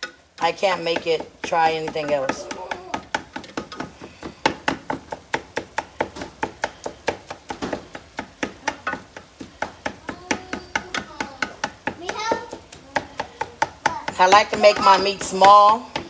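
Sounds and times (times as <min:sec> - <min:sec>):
meat chopper knocking on pan: 0:00.0 - 0:16.0.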